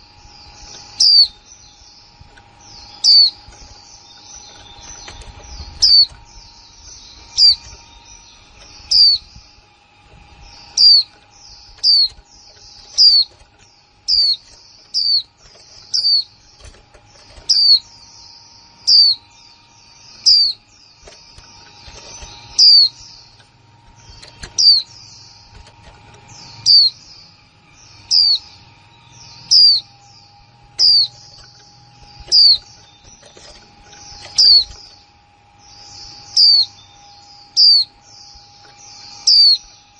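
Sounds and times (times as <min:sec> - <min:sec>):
soft bird twittering: 0:00.0 - 0:39.9.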